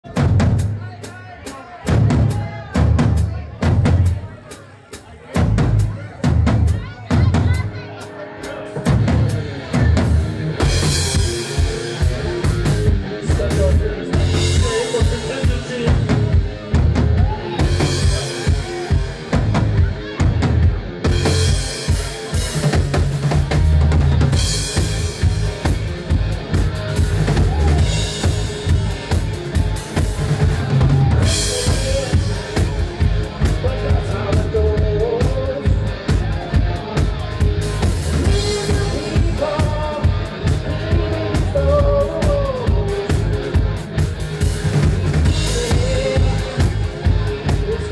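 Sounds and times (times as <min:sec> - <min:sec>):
drum kit pounding beat: 0:00.0 - 0:47.9
rock band playing: 0:00.0 - 0:47.9.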